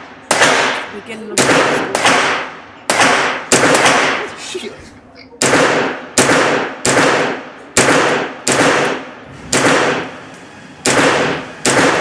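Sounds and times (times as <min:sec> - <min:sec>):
rifle shots echoing: 0:00.2 - 0:04.4, 0:05.4 - 0:10.2, 0:10.8 - 0:12.0.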